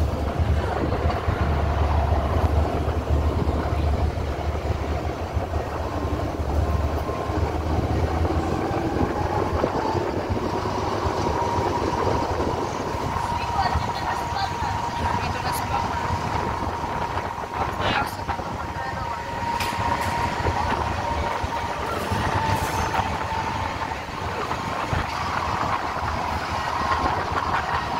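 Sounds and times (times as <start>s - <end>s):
train rumbling: 0.0s - 27.9s.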